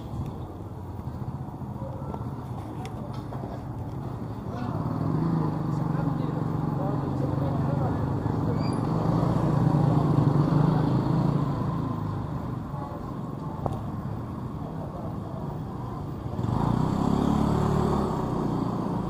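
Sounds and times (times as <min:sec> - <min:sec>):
motorcycle engines passing: 0:00.0 - 0:19.0.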